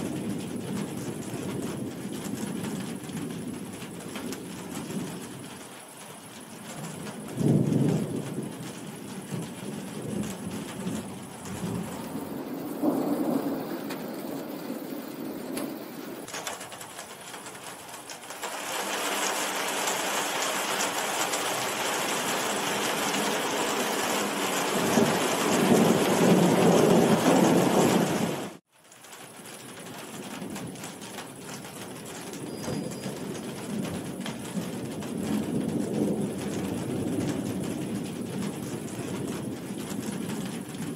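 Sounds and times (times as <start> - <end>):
thunder rumbling: 0.0 - 16.9, 20.7 - 28.6, 29.8 - 40.9
heavy rain falling: 0.0 - 40.9.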